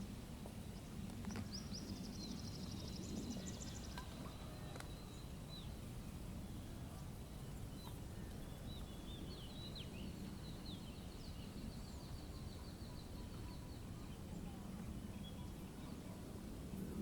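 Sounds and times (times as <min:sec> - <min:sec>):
small birds chirping and trilling: 0:00.8 - 0:16.2.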